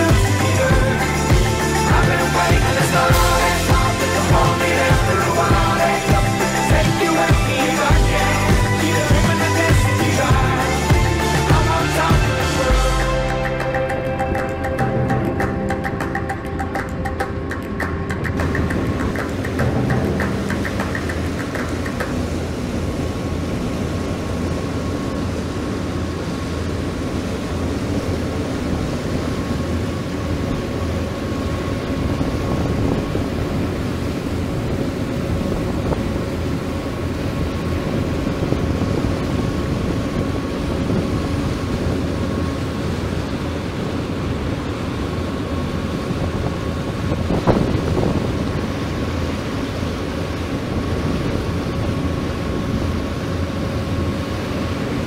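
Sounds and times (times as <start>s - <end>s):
boat engine running: 0.0s - 55.0s
engine whine: 0.0s - 55.0s
rushing water: 0.0s - 55.0s.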